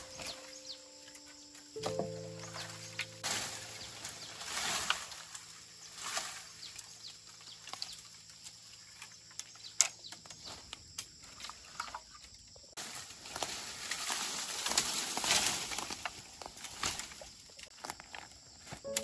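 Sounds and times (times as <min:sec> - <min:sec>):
bamboo leaves rustling: 0:00.0 - 0:19.0
bamboo cracking: 0:01.2 - 0:19.0.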